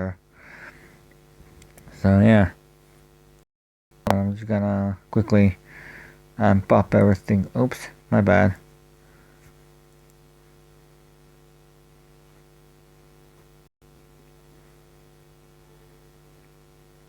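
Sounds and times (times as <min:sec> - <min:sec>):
faint electrical mains hum: 0:00.0 - 0:03.4, 0:04.0 - 0:17.0.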